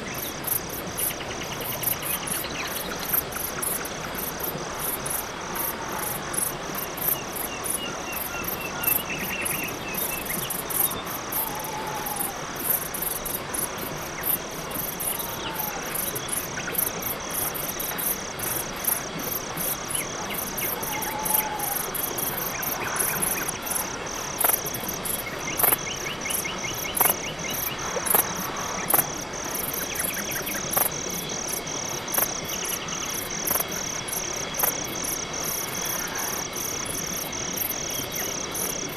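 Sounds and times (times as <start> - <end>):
crickets chirping: 0.0 - 38.9
night animal calls and ticks: 0.0 - 38.9.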